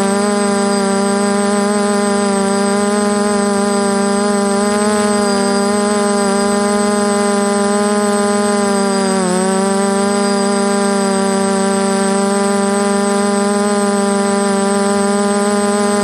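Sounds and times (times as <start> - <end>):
drone motors humming: 0.0 - 16.0.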